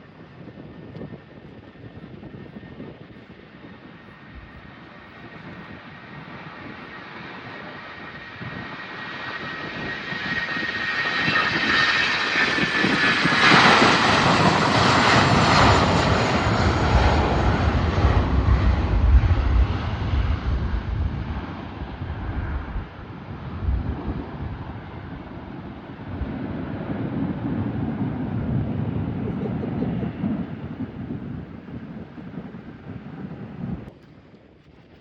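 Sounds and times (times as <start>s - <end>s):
aircraft engines approaching: 0.1s - 34.0s.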